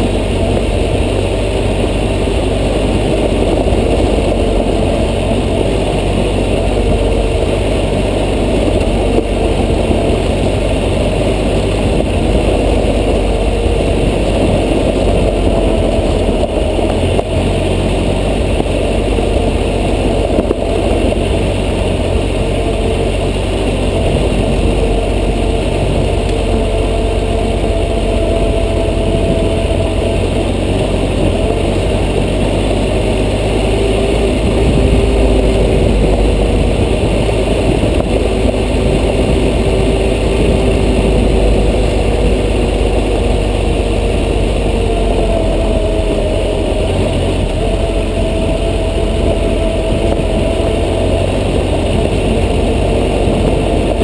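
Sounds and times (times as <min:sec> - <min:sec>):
constant low rumble: 0:00.0 - 0:54.0
motorcycle engine running: 0:00.0 - 0:54.0.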